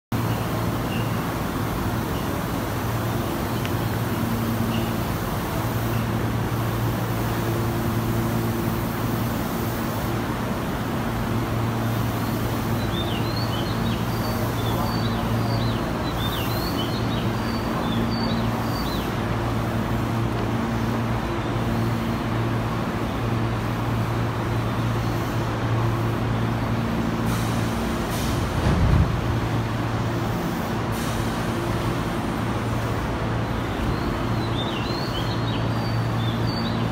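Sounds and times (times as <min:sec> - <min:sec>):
train equipment electric hum: 0:00.2 - 0:36.9.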